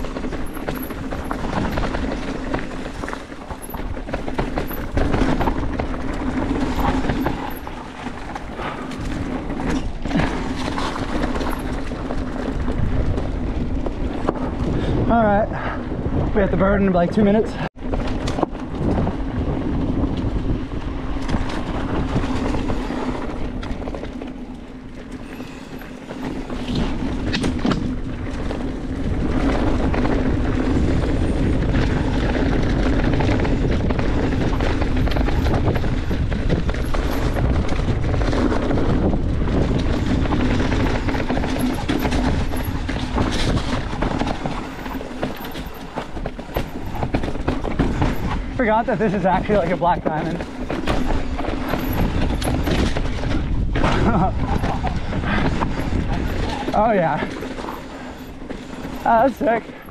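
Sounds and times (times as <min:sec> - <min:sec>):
bike rattling over bumps: 0:00.0 - 0:59.9
bike tyres rolling over dirt: 0:00.0 - 0:59.9.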